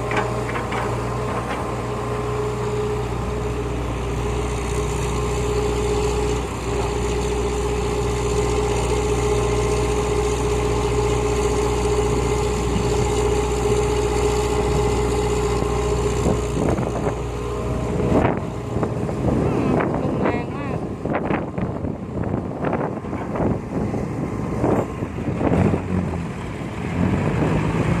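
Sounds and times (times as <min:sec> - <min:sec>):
constant whine: 0:00.0 - 0:28.0
diesel engine of heavy machinery: 0:00.0 - 0:28.0.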